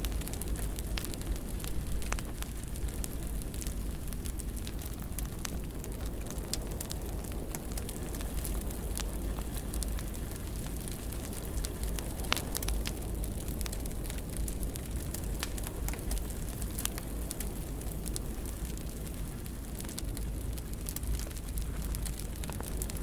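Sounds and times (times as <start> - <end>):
fire crackling and popping: 0.0 - 23.0
low fire rumble: 0.0 - 23.0.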